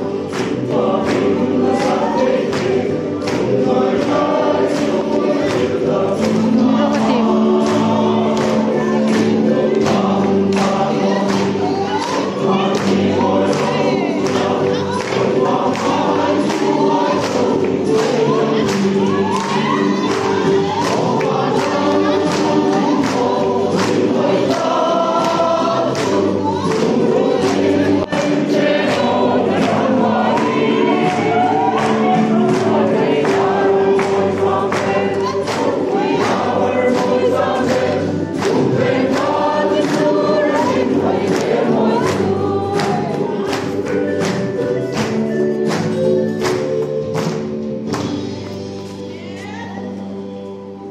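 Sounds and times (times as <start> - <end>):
men's choir singing a hymn: 0.0 - 46.8
steady percussive beat: 0.0 - 49.6.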